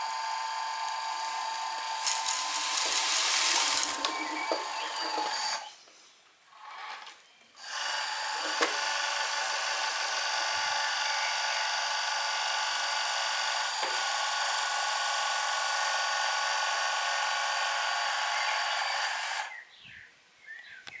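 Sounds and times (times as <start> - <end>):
electric motor whine: 0.0 - 5.8, 6.6 - 19.6.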